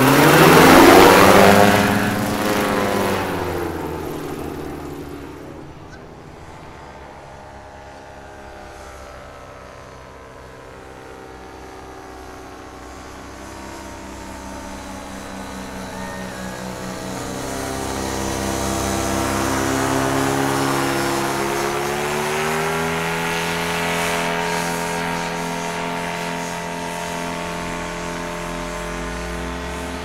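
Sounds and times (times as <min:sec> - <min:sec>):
paramotor engine and propeller drone: 0:00.0 - 0:30.0.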